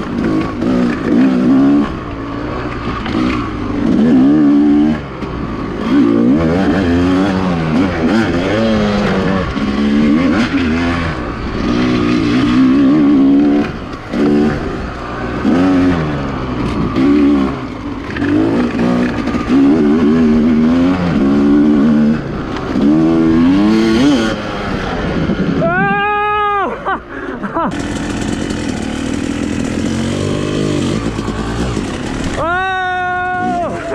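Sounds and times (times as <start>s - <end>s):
dirt bike engine revving: 0.0s - 25.8s, 27.6s - 33.9s.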